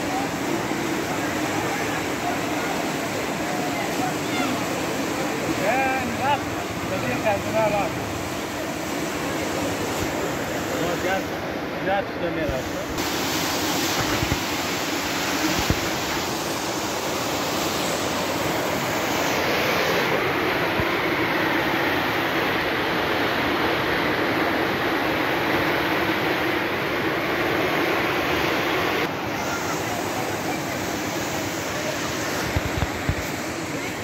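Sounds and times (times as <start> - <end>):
flood water rushing: 0.0 - 34.0.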